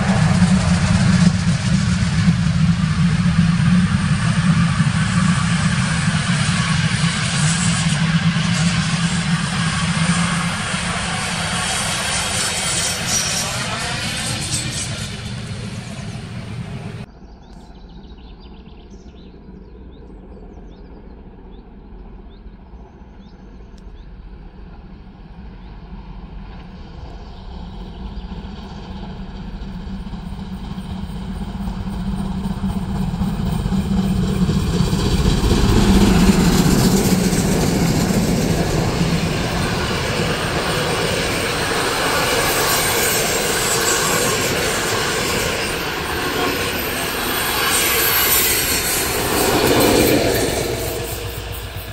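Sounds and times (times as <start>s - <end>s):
coaches rumbling on rails: 0.0s - 17.1s, 24.2s - 51.9s
steam train approaching: 0.0s - 17.1s, 24.4s - 51.9s.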